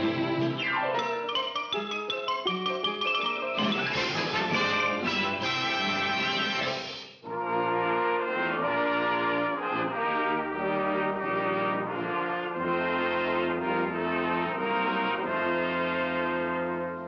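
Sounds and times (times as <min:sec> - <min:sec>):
orchestral brass music: 0:00.0 - 0:17.0.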